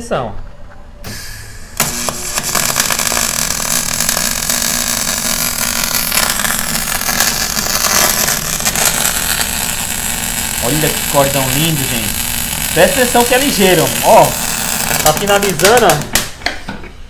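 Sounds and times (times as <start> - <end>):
welding arc hissing crackle: 1.1 - 16.4.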